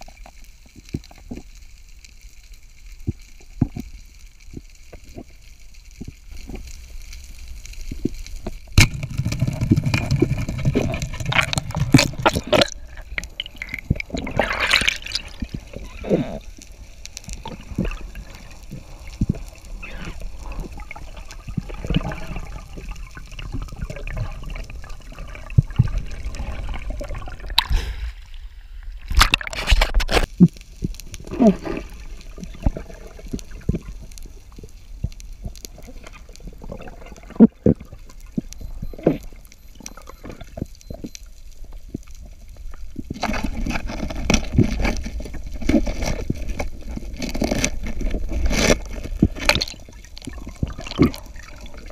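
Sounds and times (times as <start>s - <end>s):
water gurgling and sloshing: 7.8s - 51.9s.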